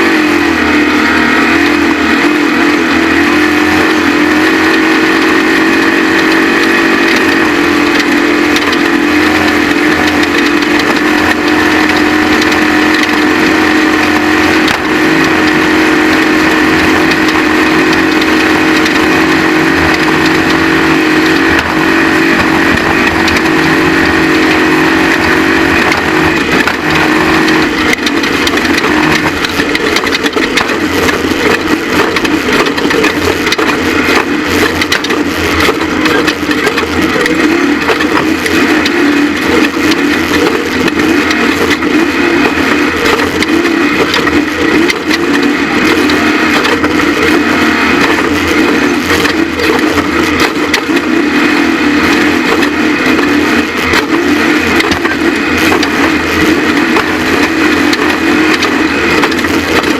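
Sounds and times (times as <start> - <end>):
race truck engine running hard: 0.0 - 59.9
rough crunching rattle: 0.0 - 59.9.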